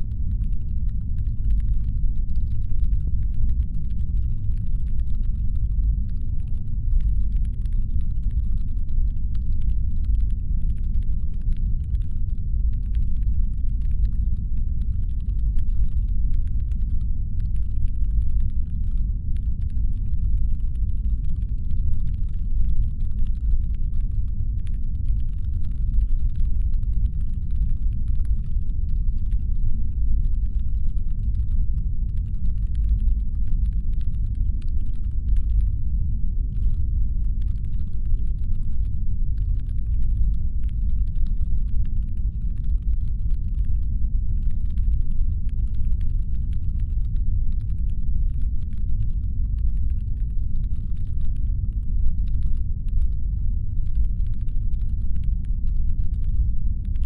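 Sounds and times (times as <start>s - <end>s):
faint rapid clicking: 0.0s - 57.0s.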